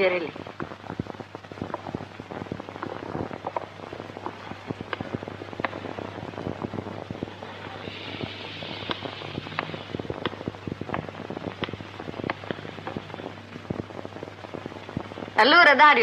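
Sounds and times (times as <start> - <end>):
film crackling and clicks: 0.0 - 15.8
soft hiss: 0.0 - 16.0
steady low hum: 0.0 - 16.0.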